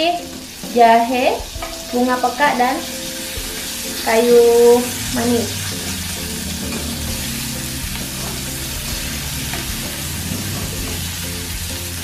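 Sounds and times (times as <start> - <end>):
aromatics sizzling in a wok: 0.0 - 12.0.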